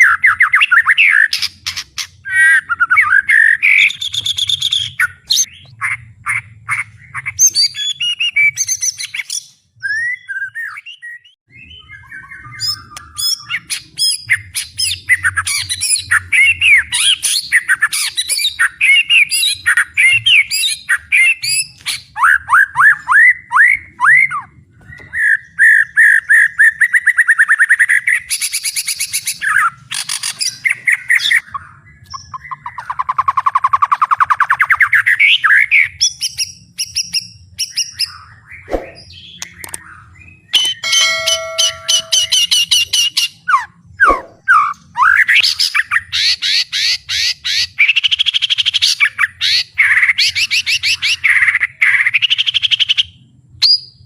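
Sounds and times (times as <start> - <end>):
songbird singing trills and whistles: 0.0 - 54.0.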